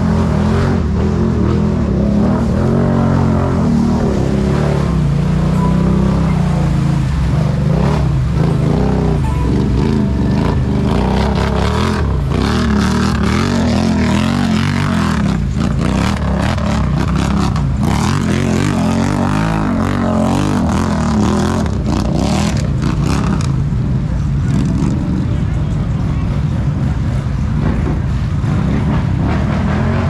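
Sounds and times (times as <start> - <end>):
atv engine revving: 0.0 - 25.4, 27.6 - 30.0.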